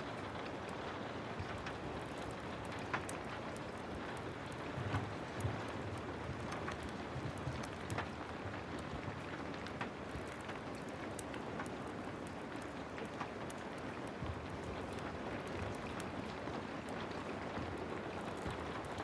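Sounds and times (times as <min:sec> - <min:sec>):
heavy rain: 0:00.0 - 0:19.0
sharp ticks and crackles: 0:00.0 - 0:19.0.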